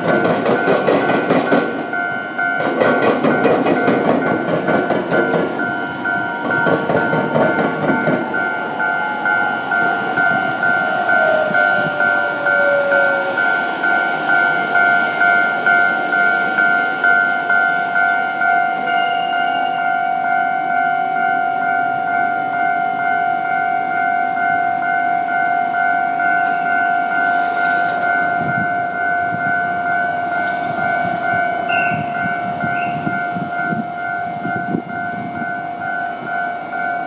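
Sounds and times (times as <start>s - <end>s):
level crossing warning bell: 0.0s - 37.0s.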